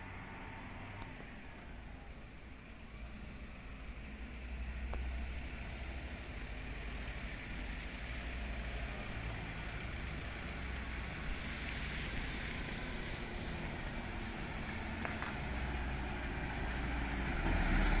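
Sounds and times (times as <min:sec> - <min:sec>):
diesel engine humming: 0:00.0 - 0:18.0
tyres hissing on wet road: 0:03.6 - 0:18.0.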